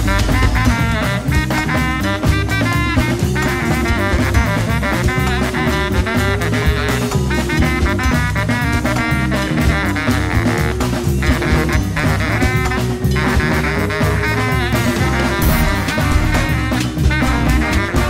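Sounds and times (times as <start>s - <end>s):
upbeat swing music with brass: 0.0s - 18.0s.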